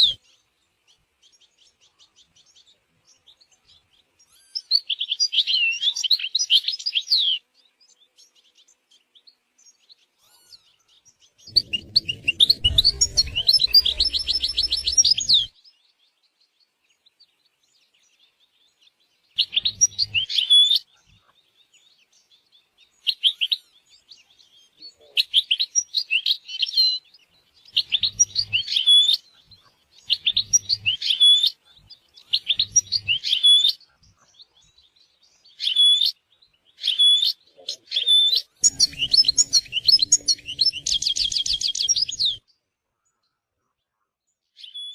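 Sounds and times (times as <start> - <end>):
bird twittering and trilling: 0.0 - 43.4.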